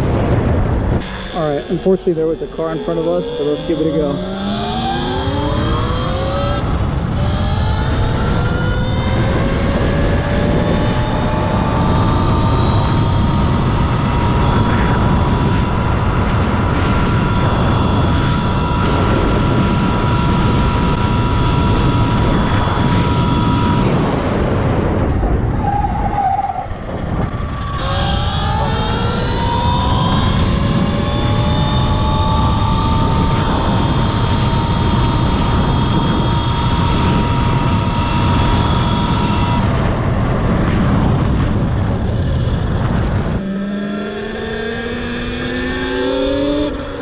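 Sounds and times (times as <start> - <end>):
electric motor whine: 0.0 - 47.0
wind rush on microphone: 0.0 - 47.0.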